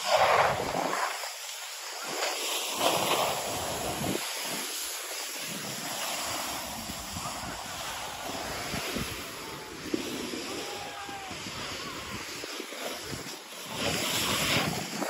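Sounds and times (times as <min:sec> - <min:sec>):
snowboard scraping over snow: 0:00.0 - 0:15.0
wind rushing over microphone: 0:00.0 - 0:15.0.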